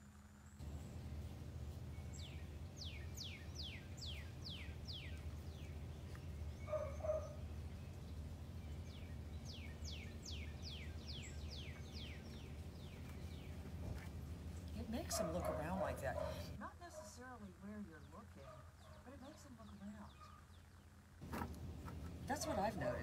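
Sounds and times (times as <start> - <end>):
low background rumble: 0.4 - 23.0.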